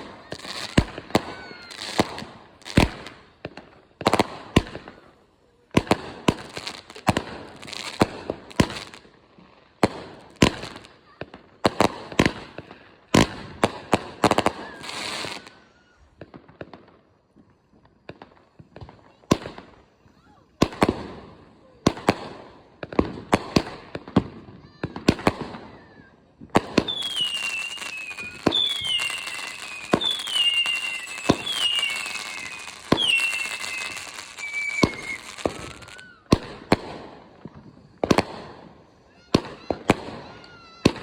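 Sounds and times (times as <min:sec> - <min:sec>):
firework cakes firing shots: 0:00.0 - 0:05.1, 0:05.7 - 0:09.2, 0:09.8 - 0:16.9, 0:17.7 - 0:41.0.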